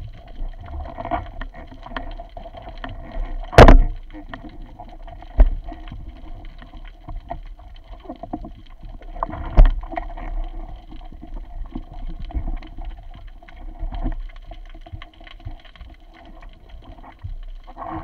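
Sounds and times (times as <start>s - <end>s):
muffled underwater water noise: 0.0s - 18.0s.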